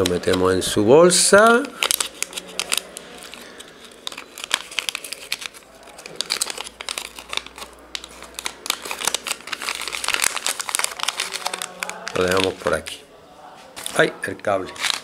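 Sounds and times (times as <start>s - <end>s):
plastic bag crinkling: 0.0s - 12.9s, 13.8s - 15.0s.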